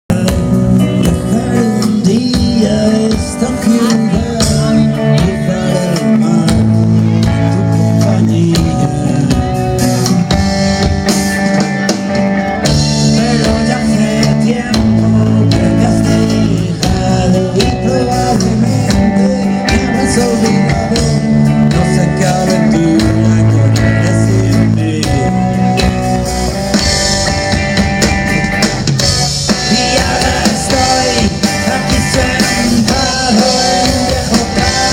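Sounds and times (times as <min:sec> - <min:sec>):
rock band with singing: 0:00.0 - 0:34.9.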